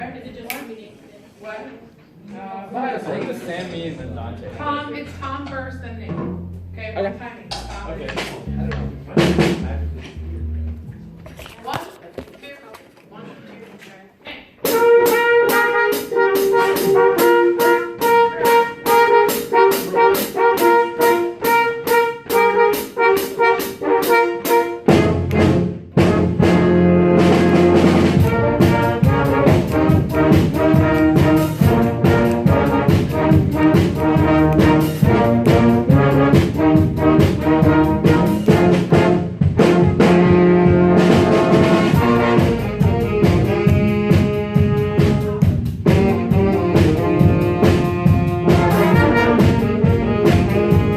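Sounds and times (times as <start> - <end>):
live band with brass playing: 4.5 - 11.6, 14.6 - 50.9.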